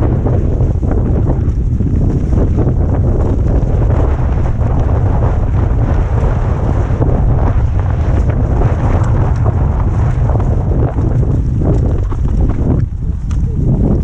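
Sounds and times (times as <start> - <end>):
bike tyres on trail: 0.0 - 14.0
wind buffeting microphone: 0.0 - 14.0.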